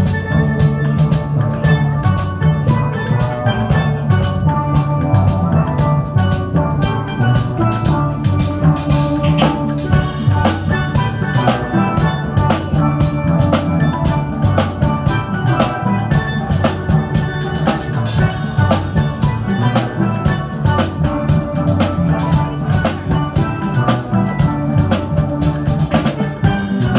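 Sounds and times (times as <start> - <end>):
drums keeping steady beat: 0.0 - 26.9
steel band playing: 0.0 - 26.9.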